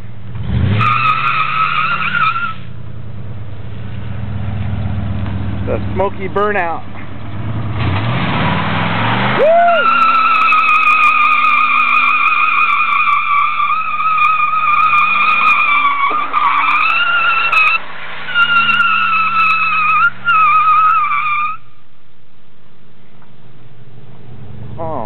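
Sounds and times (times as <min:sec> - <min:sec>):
truck engine revving: 0:00.0 - 0:21.6
tire squealing: 0:00.0 - 0:25.0.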